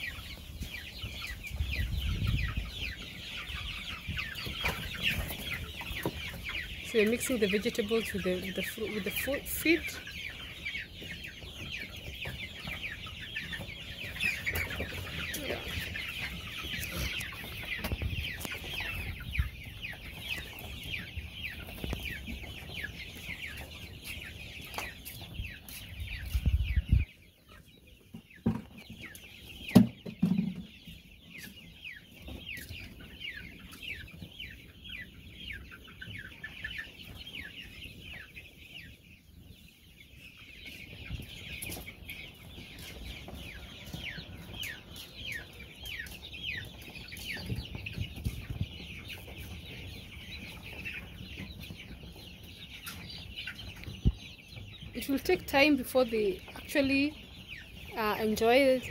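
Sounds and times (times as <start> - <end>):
chicks peeping: 0.0 - 58.9.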